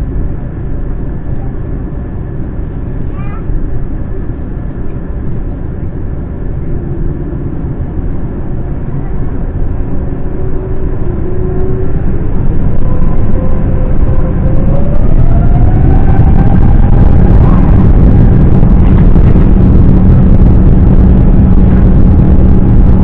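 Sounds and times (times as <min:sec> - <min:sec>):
aircraft cabin rumble: 0:00.0 - 0:23.0
jet engine whine rising in pitch: 0:00.0 - 0:23.0.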